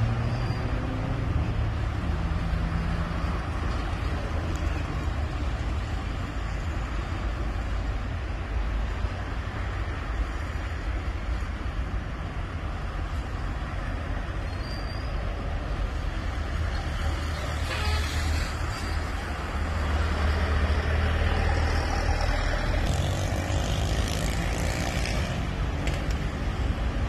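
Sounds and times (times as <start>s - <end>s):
vehicle engines rumbling: 0.0s - 27.0s
tyres hissing on asphalt: 2.7s - 25.2s.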